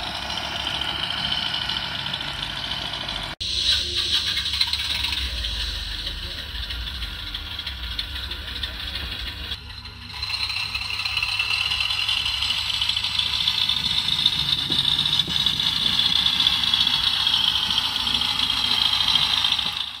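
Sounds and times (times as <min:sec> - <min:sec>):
model locomotive whirring hiss: 0:00.0 - 0:20.0.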